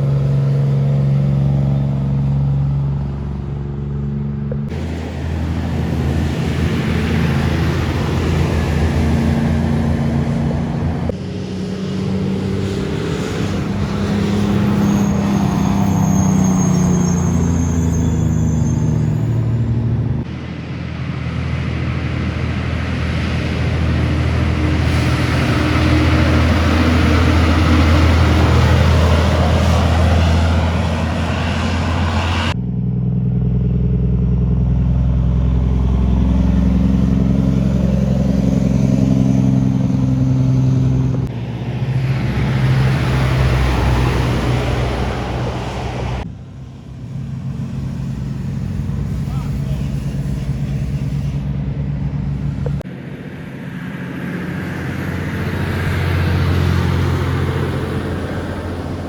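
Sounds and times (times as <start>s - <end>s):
heavy trucks passing: 0.0s - 59.0s
tyre and road noise: 0.0s - 59.0s.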